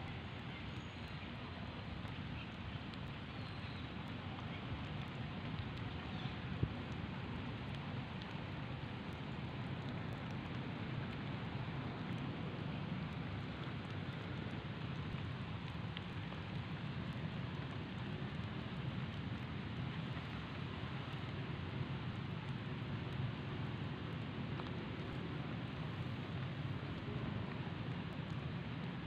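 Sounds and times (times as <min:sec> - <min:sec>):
steady rushing noise: 0:03.9 - 0:29.0.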